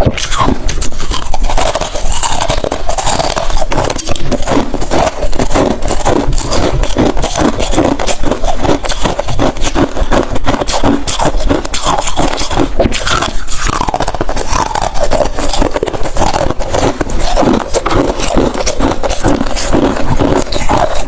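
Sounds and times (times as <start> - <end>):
chewing crunchy ice: 0.0 - 21.0.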